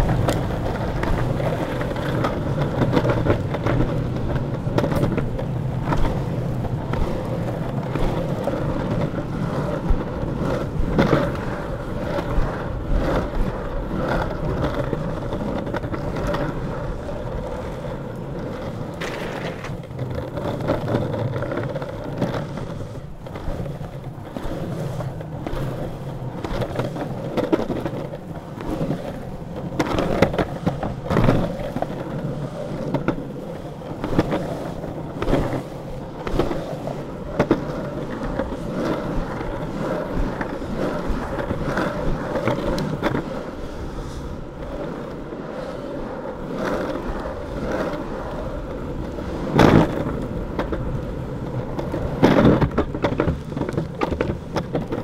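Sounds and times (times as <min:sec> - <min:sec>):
longboard wheels rolling on pavement: 0:00.0 - 0:55.0.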